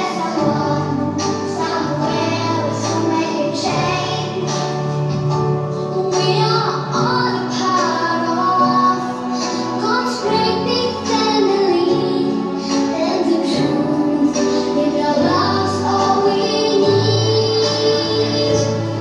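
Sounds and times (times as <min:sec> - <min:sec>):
children singing: 0:00.0 - 0:05.0, 0:05.8 - 0:19.0
instrumental backing with bass: 0:00.0 - 0:19.0.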